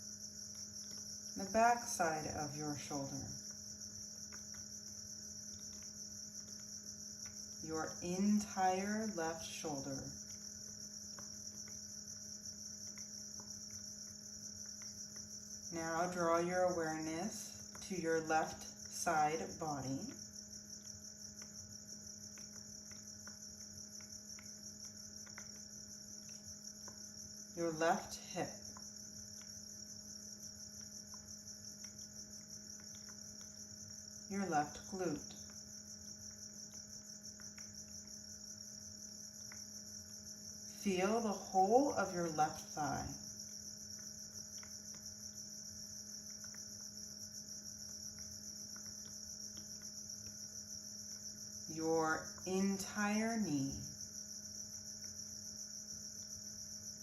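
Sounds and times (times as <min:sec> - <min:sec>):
crickets chirping: 0:00.0 - 0:57.0
low steady hum: 0:00.0 - 0:57.0.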